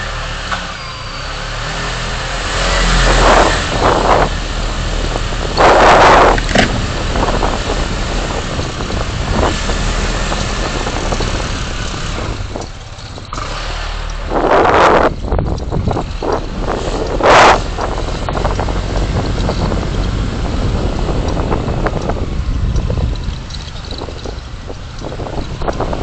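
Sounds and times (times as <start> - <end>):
car engine and road hum: 0.0 - 26.0
vehicles passing: 0.0 - 26.0.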